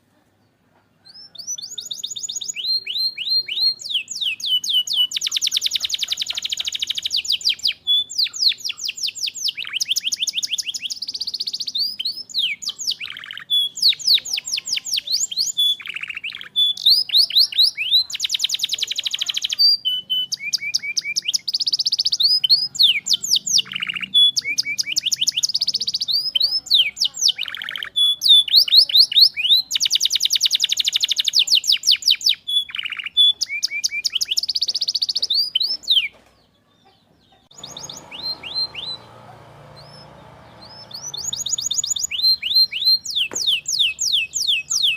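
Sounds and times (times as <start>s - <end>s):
canary singing trills: 1.0s - 44.9s.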